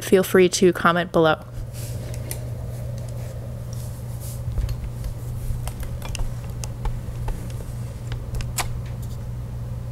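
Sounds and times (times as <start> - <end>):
low hum: 0.0 - 9.9.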